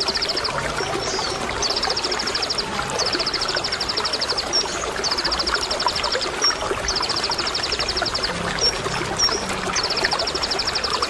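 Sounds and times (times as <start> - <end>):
bird singing rapid high trill: 0.0 - 11.0
running water: 0.0 - 11.0.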